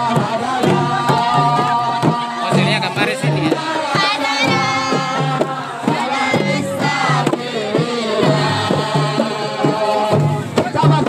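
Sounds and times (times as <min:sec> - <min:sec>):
crowd singing together: 0:00.0 - 0:11.0
steady drum beat: 0:00.0 - 0:11.0.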